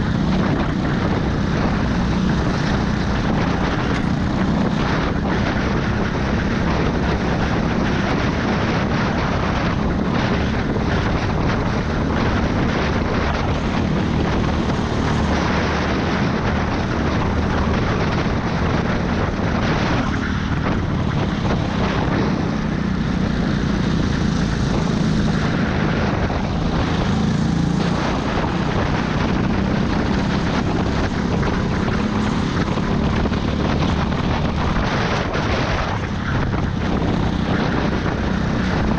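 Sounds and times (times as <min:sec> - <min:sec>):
go-kart engine running hard: 0:00.0 - 0:38.9
wind noise: 0:00.0 - 0:38.9.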